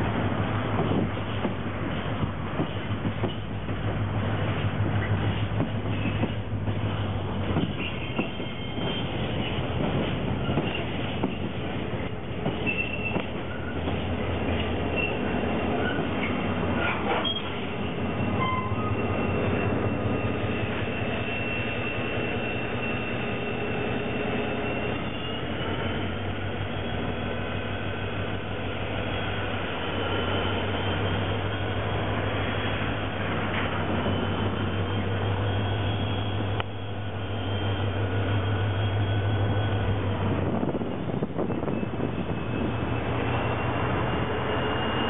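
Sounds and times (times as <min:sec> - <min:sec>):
diesel locomotive engine droning: 0:00.0 - 0:45.0
high wheel squeal: 0:05.0 - 0:45.0.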